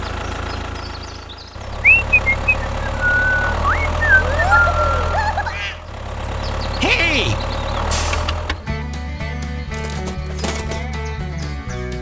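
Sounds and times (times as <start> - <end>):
tractor engine drone: 0.0 - 11.6.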